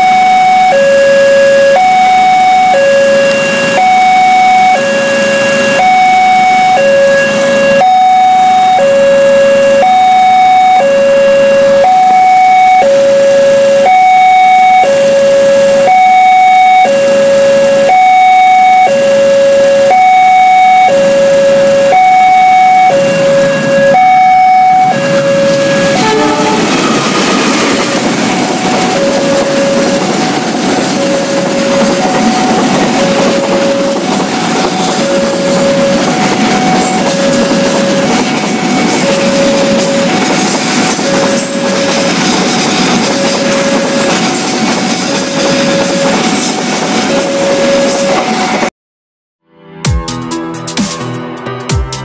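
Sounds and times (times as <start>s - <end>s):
level crossing alarm tones: 0.0s - 48.7s
passing train rushing: 0.0s - 48.7s.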